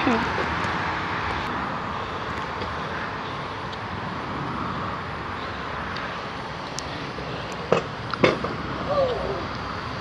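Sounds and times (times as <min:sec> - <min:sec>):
outdoor background hum: 0:00.0 - 0:10.0.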